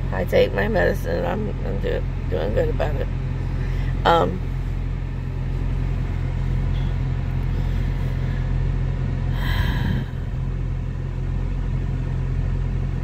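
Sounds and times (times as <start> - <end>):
car cabin rumble: 0.1 - 12.3.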